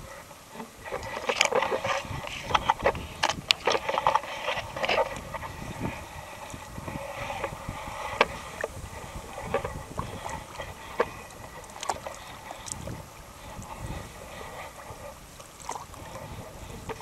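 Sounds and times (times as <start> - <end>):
water sloshing and splashing: 0.4 - 17.0.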